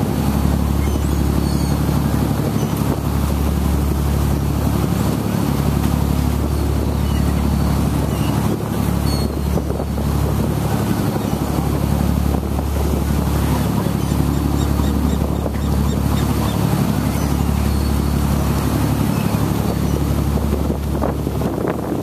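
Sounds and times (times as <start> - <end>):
boat engine running: 0.0 - 22.0
wake churning: 0.0 - 22.0
wind buffeting microphone: 0.0 - 22.0.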